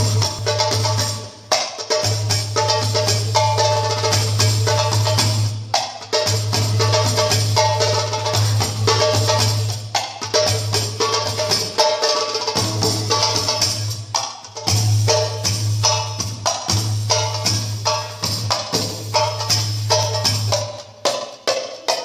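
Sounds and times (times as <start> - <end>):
darbuka drumming: 0.0 - 22.0.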